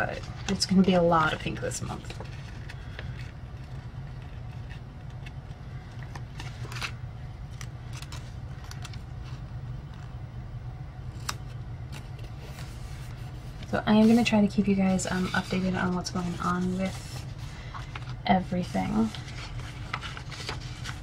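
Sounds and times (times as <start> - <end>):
soft paper rustles: 0.0 - 10.2, 11.1 - 21.0
low background hum: 0.0 - 21.0.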